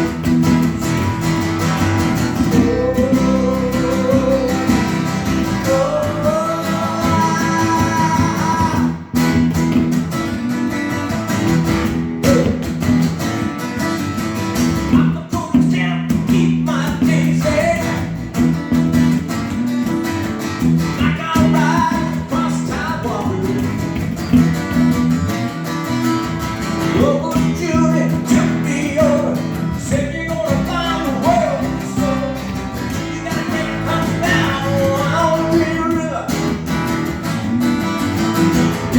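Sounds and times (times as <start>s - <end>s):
guitar chords with melody: 0.0s - 38.9s.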